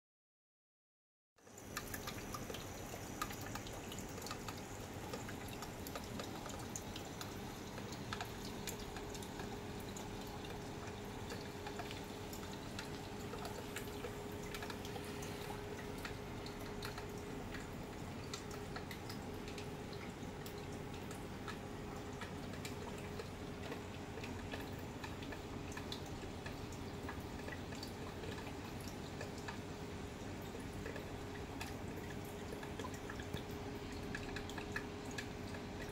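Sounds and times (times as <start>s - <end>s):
faint steady hum: 1.4s - 35.9s
water trickling and dripping: 1.4s - 35.9s.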